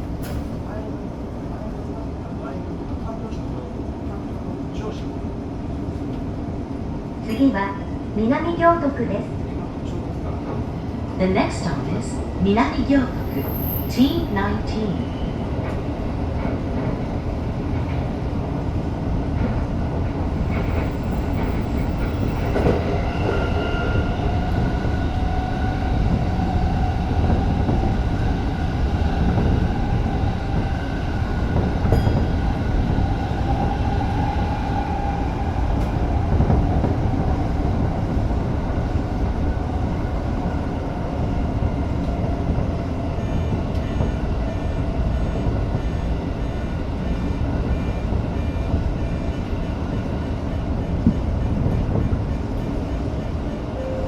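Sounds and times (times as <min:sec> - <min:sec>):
train wheels rumbling on rail: 0:00.0 - 0:53.9
steady train whine: 0:00.0 - 0:54.0.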